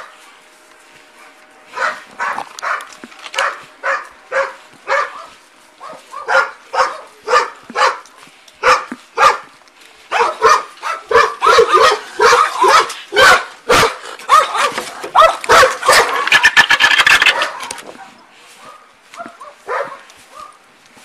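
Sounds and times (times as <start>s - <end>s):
dog barking: 1.2s - 9.5s, 10.1s - 16.5s, 17.1s - 20.6s.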